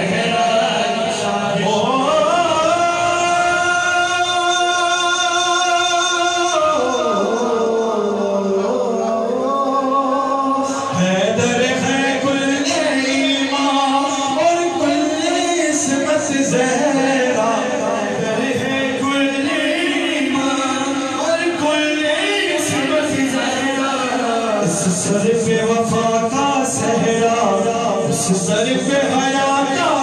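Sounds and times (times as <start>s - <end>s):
men singing devotional song: 0.0s - 30.0s.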